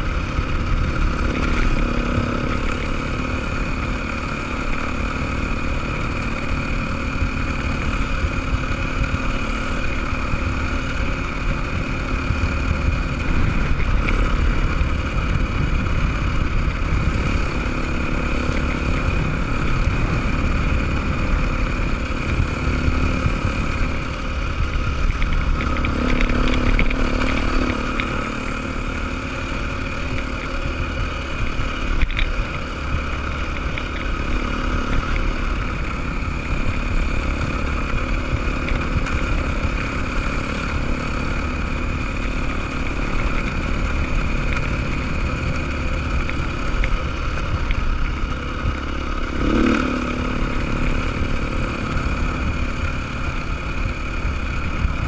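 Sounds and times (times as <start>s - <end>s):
low wind rumble: 0.0s - 55.0s
motorcycle engine running: 0.0s - 55.0s.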